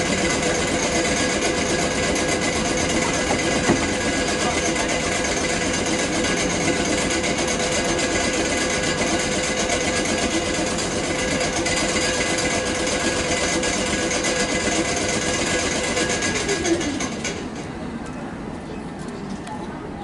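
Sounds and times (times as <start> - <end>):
train machinery humming: 0.0 - 20.0.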